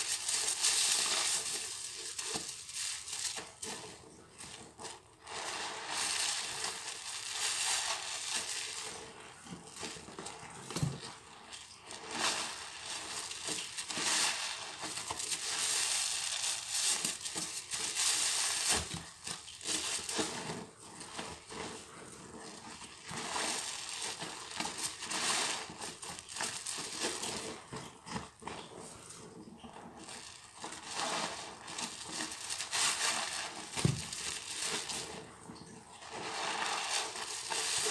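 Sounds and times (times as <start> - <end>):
sponge squelching in soap foam: 0.0 - 37.9.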